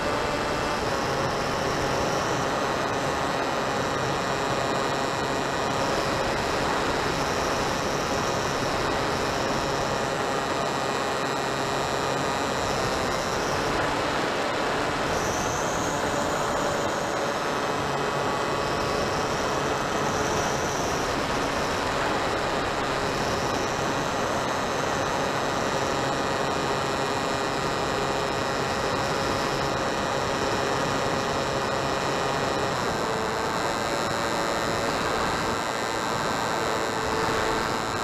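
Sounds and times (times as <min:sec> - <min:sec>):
rush of noise: 0:00.0 - 0:38.0.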